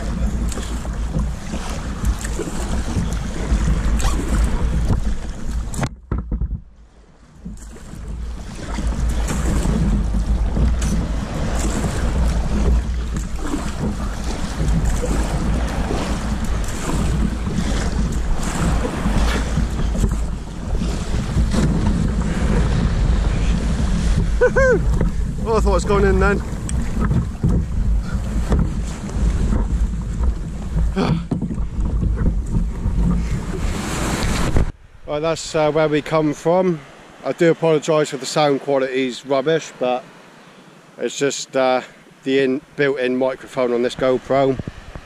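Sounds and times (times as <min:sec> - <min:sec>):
wind buffeting microphone: 0:00.0 - 0:37.2, 0:44.0 - 0:45.0
kayak splashing: 0:00.0 - 0:45.0
sea waves: 0:00.0 - 0:45.0.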